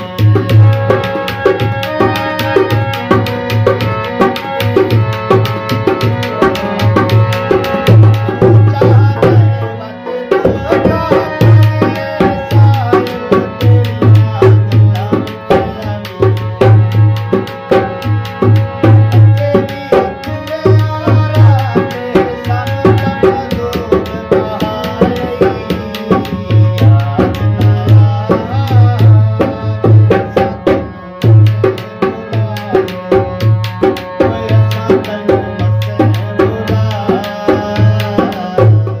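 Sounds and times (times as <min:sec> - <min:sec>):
hand drum rhythm: 0:00.0 - 0:39.0
harmonium melody: 0:00.0 - 0:39.0.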